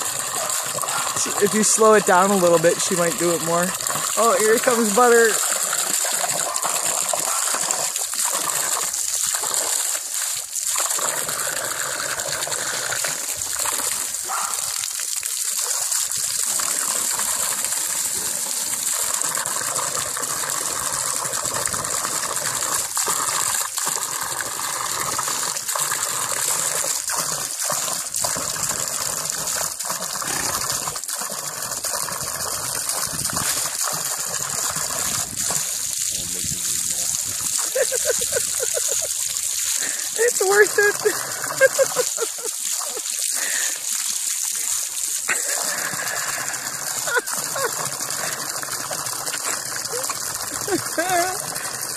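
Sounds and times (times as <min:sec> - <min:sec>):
hose water spraying and splashing: 0:00.0 - 0:51.9.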